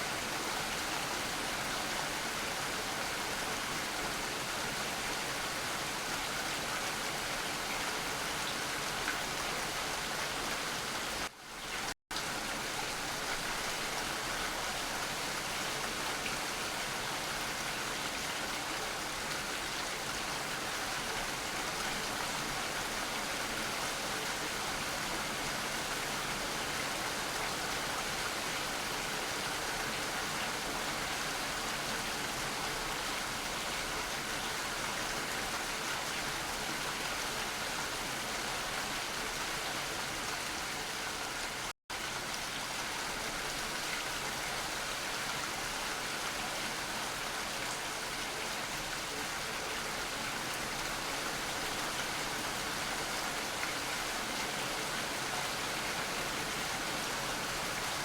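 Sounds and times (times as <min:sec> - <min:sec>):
dense rain falling: 0:00.0 - 0:58.0.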